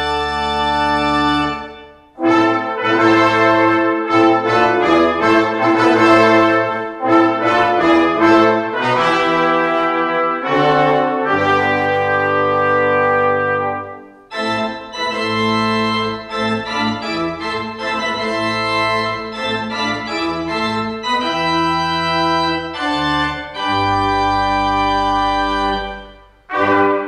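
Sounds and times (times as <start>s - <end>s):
brass ensemble chord: 0.0s - 27.0s
pipe organ playing chords: 0.0s - 27.0s.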